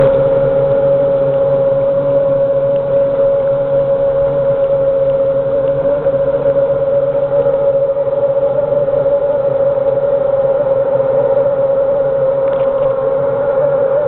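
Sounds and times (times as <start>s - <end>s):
boat engine at high revs: 0.0s - 14.0s.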